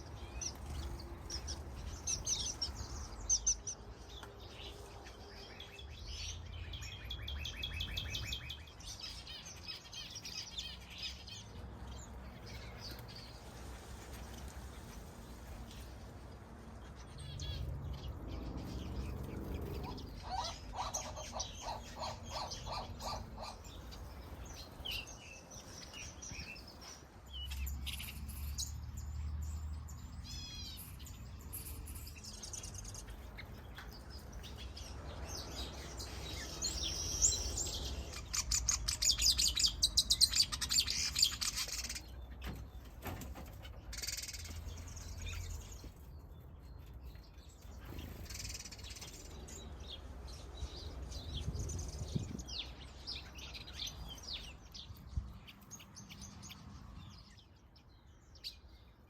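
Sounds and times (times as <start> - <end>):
finches chirping and calling: 0.0 - 13.4, 16.8 - 42.8, 43.6 - 58.9.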